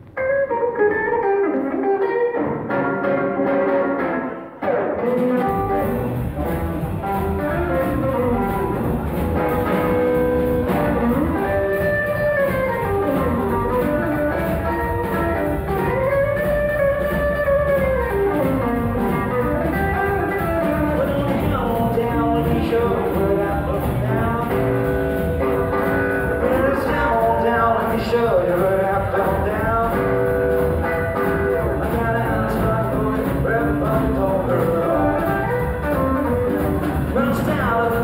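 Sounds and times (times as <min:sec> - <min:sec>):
drums: 0:00.0 - 0:38.0
electric guitar bending notes: 0:00.0 - 0:38.0
upright double bass: 0:05.5 - 0:38.0.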